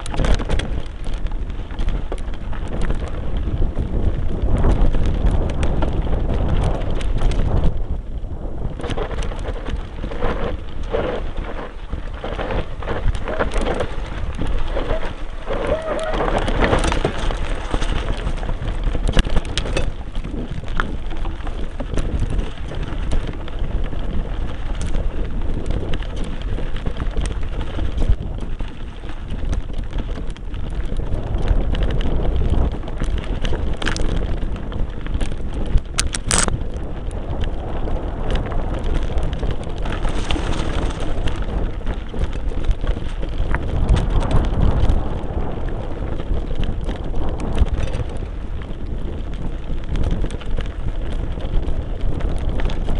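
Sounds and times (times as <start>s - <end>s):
tyres crunching on loose stones: 0.0s - 52.9s
wind rumble on microphone: 0.0s - 52.9s.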